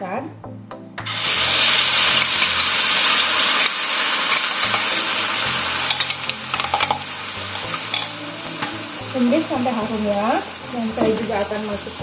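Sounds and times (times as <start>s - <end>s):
spice paste sizzling in hot oil: 1.0s - 12.0s.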